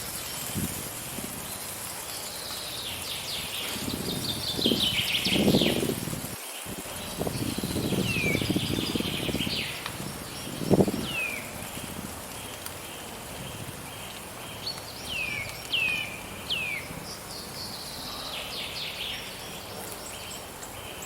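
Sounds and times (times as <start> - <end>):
wind gusts: 0.0 - 21.0
small birds chirping: 1.4 - 21.0.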